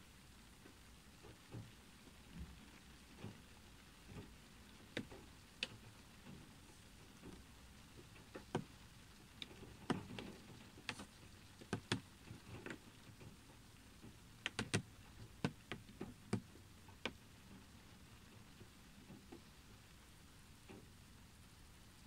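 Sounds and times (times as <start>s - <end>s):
low steady hiss: 0.0s - 22.0s
raindrops tapping on windshield: 0.2s - 22.0s.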